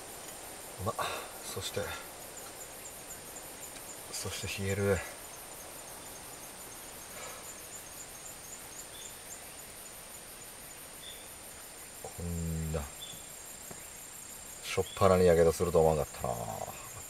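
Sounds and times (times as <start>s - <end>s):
fast pulsing insect call: 0.0s - 17.0s
insects trilling: 0.0s - 17.0s.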